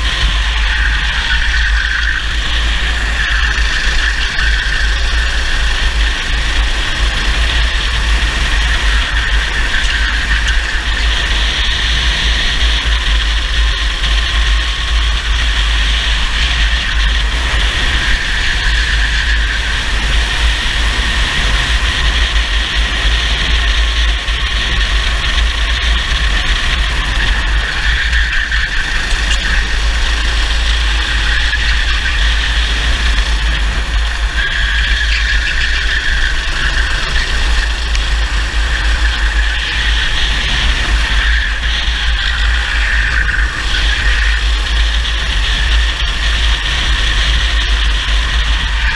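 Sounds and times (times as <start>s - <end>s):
kart engine revving: 0.0s - 48.9s
wind rumble on microphone: 0.0s - 48.9s.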